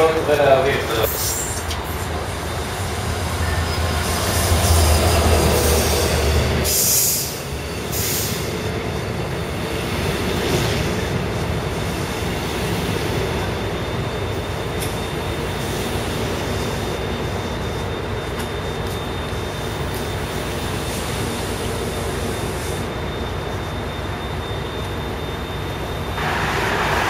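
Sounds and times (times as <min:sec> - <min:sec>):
diesel locomotive rumble: 0:00.0 - 0:27.0
train coaches rolling on rails: 0:00.0 - 0:27.0.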